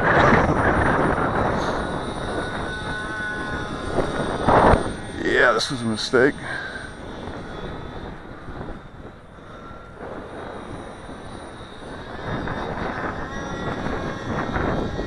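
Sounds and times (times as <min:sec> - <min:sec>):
model plane motor whining: 0:00.0 - 0:15.0
wind buffeting microphone: 0:00.0 - 0:15.0.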